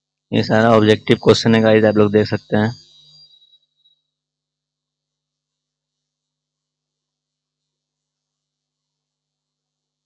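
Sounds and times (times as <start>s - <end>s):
faint electronic hiss and hum: 0.0s - 10.0s.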